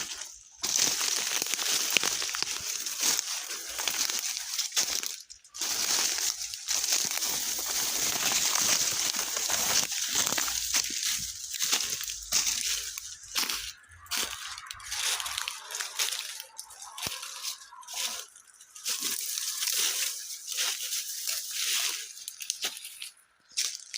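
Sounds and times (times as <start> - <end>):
footsteps on dry leaves: 0.0 - 23.9.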